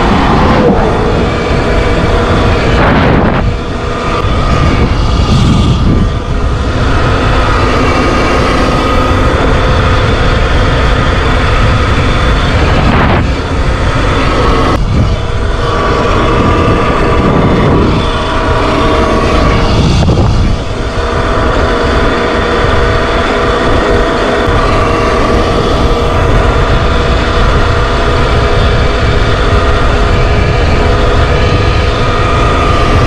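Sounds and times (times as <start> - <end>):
electric motor whine: 0.0 - 33.0
wind buffeting microphone: 0.0 - 33.0.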